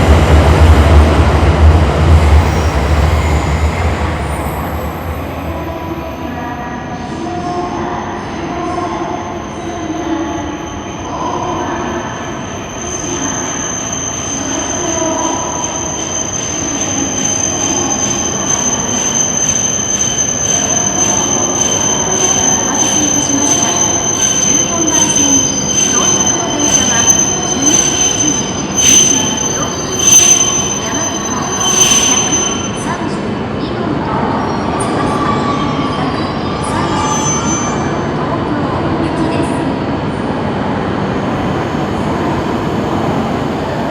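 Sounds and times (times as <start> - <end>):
high-pitched train wheel squeal: 2.1 - 33.3, 34.2 - 38.2.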